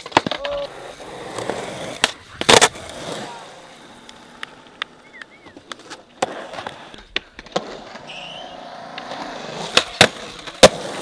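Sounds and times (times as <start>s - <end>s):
skateboard clacks: 0.0s - 11.0s
skateboard wheels on concrete: 0.0s - 11.0s.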